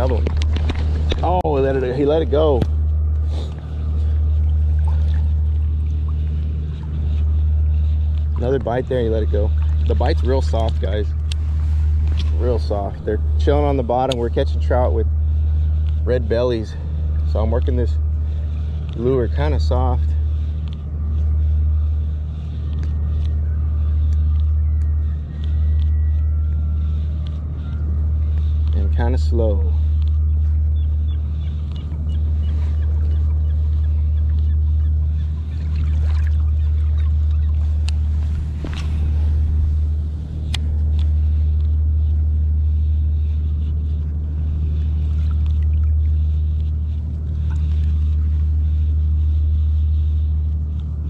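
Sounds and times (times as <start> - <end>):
engine droning: 0.0 - 51.0.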